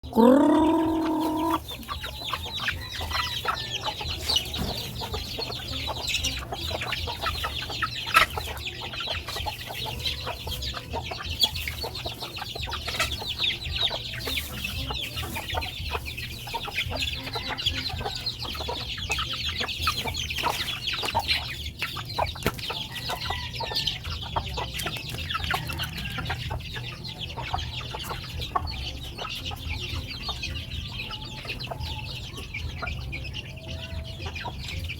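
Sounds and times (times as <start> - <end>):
chickens clucking: 0.0 - 34.9
chicks peeping: 0.0 - 34.9.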